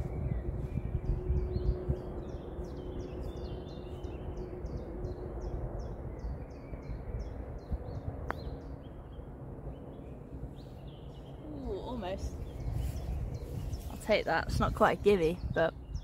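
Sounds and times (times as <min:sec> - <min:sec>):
bird chirping: 0:00.0 - 0:14.5
wind rumbling on microphone: 0:00.0 - 0:16.0.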